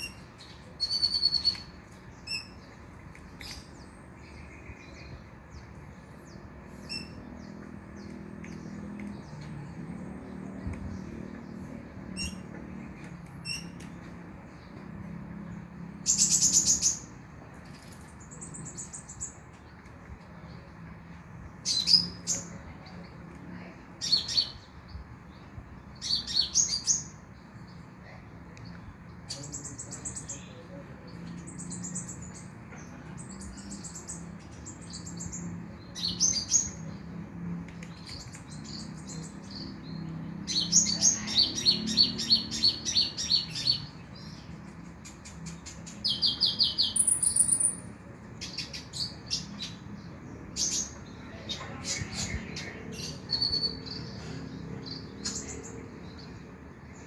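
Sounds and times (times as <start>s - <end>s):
bird chirping: 0.0s - 20.8s, 28.6s - 57.0s.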